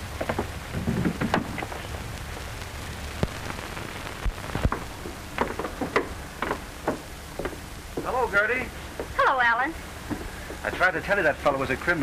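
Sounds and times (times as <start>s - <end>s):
film soundtrack hiss and crackle: 0.0s - 12.0s.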